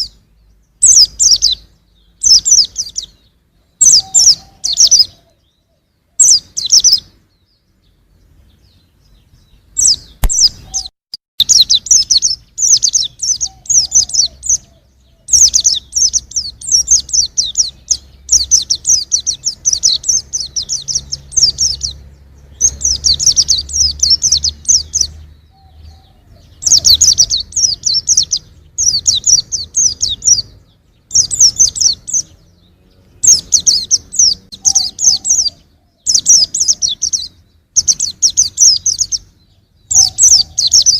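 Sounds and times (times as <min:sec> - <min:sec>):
bird twittering chirps: 0:00.0 - 0:40.9.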